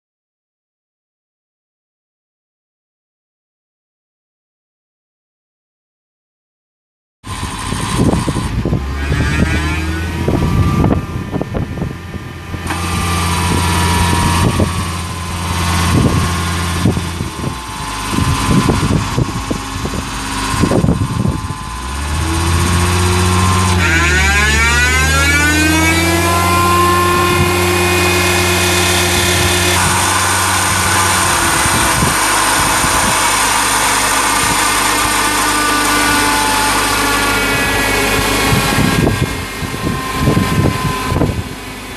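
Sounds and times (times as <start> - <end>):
skid steer engine running: 7.2 - 41.9.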